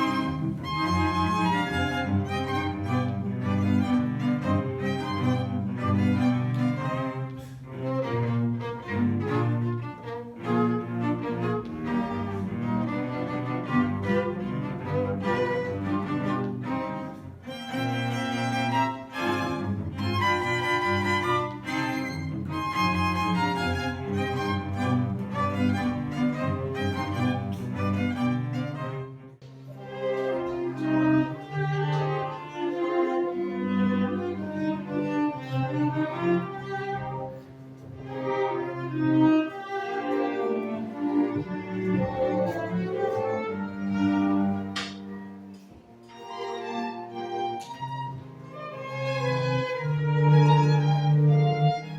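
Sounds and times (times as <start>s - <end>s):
instrumental ensemble music: 0.0s - 51.9s.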